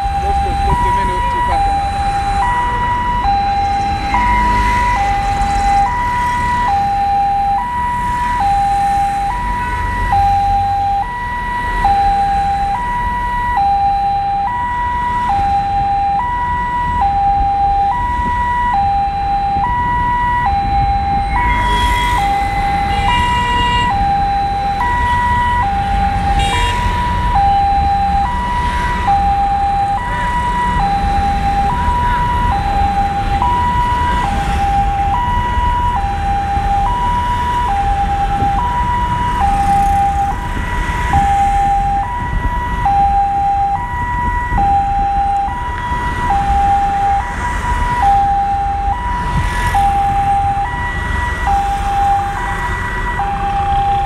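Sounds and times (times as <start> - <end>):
low rumble of car and road: 0.0 - 54.0
two-tone hi-lo siren: 0.0 - 54.0.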